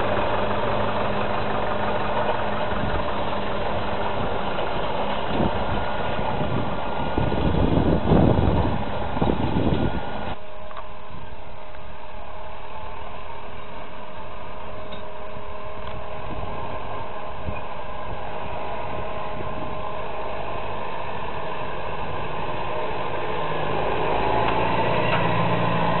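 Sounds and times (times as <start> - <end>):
tractor engine running: 0.0 - 26.0
windy machinery noise: 0.0 - 26.0.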